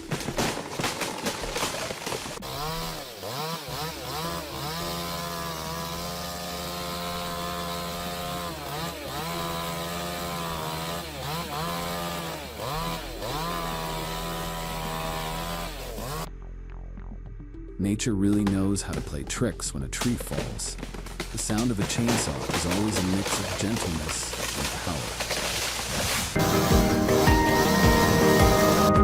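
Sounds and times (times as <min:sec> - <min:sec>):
chainsaw running at high revs: 0:01.4 - 0:16.3, 0:20.3 - 0:29.0.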